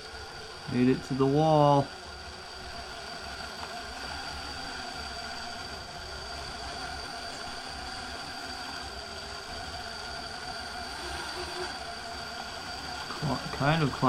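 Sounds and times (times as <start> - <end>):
electric motor and gears whining: 0.0 - 14.0.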